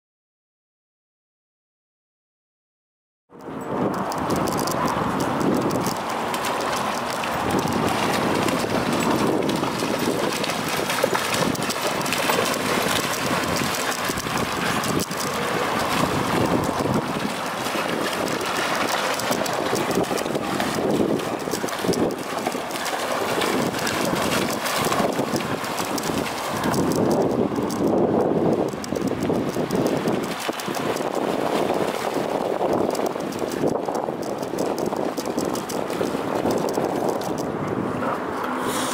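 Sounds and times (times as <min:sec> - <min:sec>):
wind buffeting microphone: 0:03.3 - 0:38.9.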